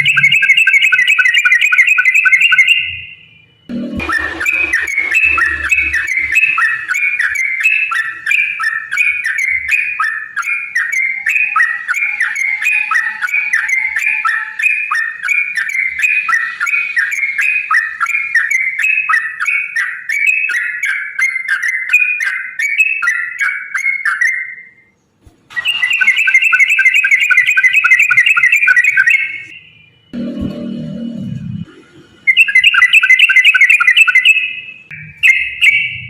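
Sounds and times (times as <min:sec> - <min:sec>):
bird singing bubbly whistles: 0:00.0 - 0:03.2, 0:04.0 - 0:24.9, 0:25.5 - 0:29.7, 0:32.3 - 0:36.0.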